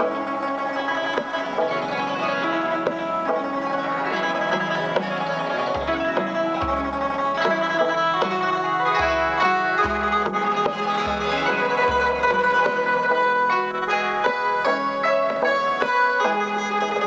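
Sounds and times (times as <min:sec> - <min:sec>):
hammered zither melody: 0:00.0 - 0:17.0
plucked zither: 0:00.0 - 0:17.0.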